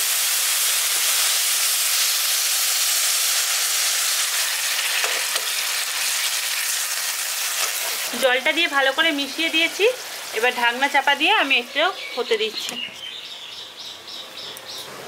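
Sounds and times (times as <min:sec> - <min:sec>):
vegetables sizzling in a wok: 0:00.0 - 0:12.7.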